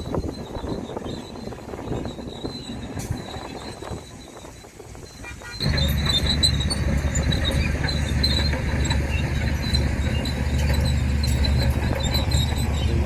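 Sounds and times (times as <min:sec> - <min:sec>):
bulldozer diesel engine drone: 0:00.0 - 0:13.0
steel tracks squealing and clanking: 0:00.0 - 0:13.0.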